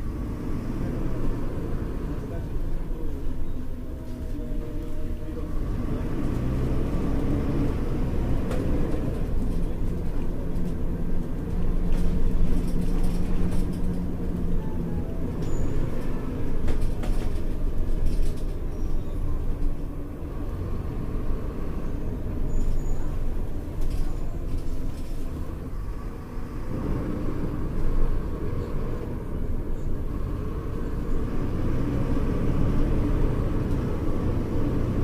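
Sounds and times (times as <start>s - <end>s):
bus engine droning: 0.0s - 35.0s.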